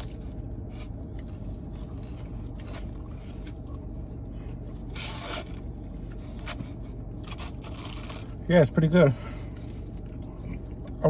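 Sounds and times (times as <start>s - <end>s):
car interior hum: 0.0s - 11.0s.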